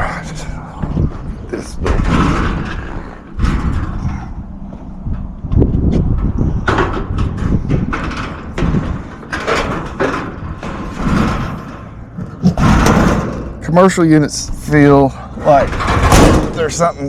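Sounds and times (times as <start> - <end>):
metal panel clanking and scraping: 0.0 - 13.8, 14.4 - 17.0.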